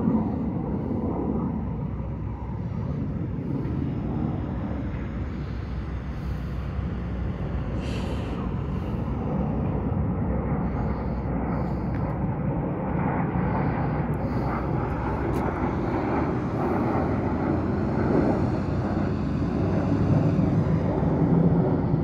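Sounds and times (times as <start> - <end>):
distant jet engine roar: 0.0 - 22.0.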